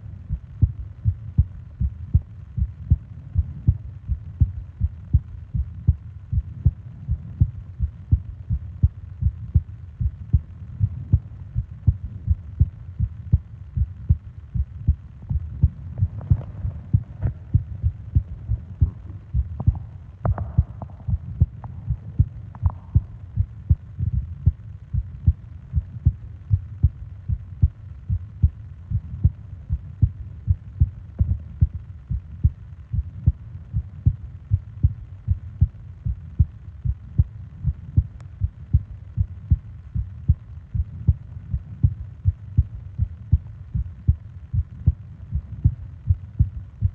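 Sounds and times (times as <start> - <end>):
heartbeat thuds: 0.0 - 46.9.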